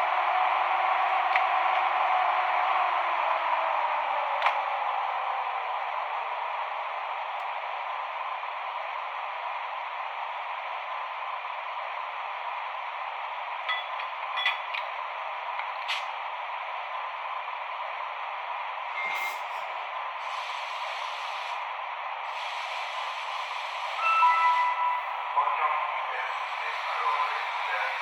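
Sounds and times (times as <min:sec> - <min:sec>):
model locomotive running noise: 0:00.0 - 0:28.0.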